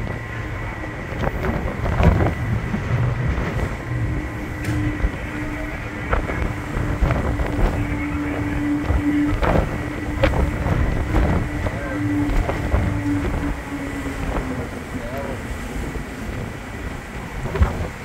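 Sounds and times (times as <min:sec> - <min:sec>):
ferry machinery hum: 0:00.0 - 0:18.0
wind buffeting microphone: 0:00.0 - 0:18.0.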